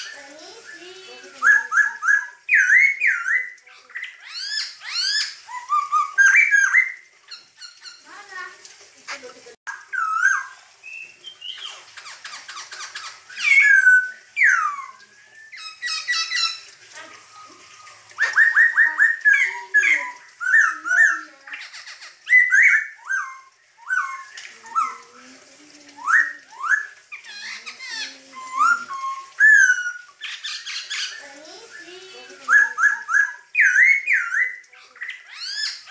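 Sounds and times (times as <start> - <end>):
laughingthrush singing: 0.0 - 35.9.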